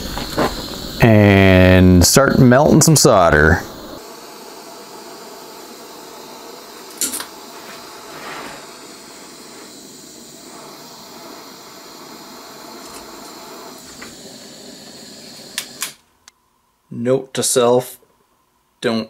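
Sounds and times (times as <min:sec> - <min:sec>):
torch hissing: 0:00.0 - 0:16.0.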